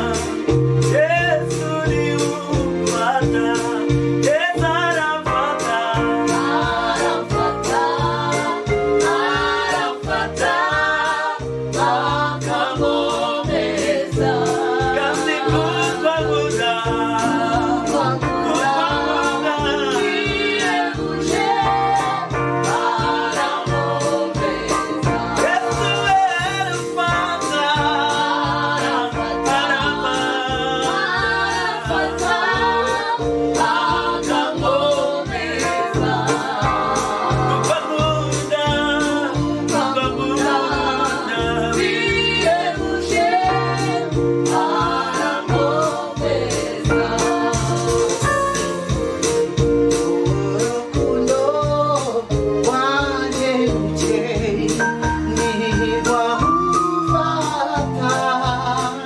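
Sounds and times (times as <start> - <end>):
group singing gospel song: 0.0 - 59.0
keyboard chords over beat: 0.0 - 59.0.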